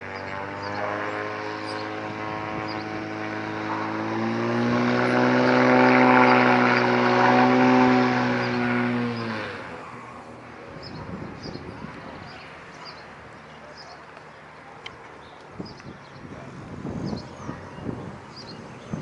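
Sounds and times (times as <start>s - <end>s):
propeller airplane engine droning: 0.0s - 19.0s.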